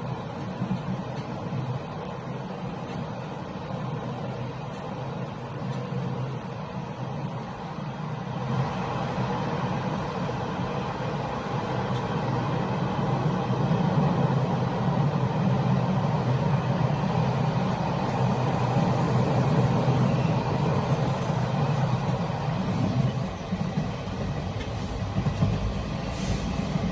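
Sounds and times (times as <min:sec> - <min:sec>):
train running noise: 0:00.0 - 0:26.9.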